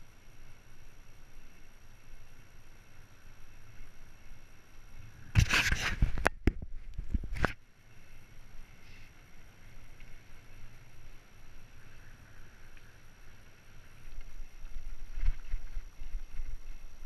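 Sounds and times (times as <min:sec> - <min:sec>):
bike tyres rumbling: 0:00.0 - 0:17.0
wind: 0:00.0 - 0:17.0.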